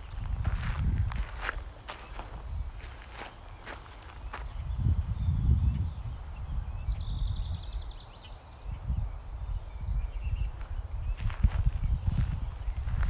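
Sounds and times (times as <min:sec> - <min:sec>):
songbird trilling: 0:00.0 - 0:13.0.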